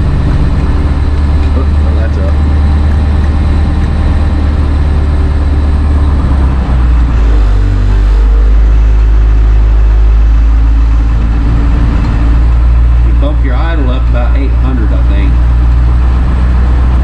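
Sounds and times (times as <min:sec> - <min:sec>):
diesel bus engine idling: 0:00.0 - 0:17.0.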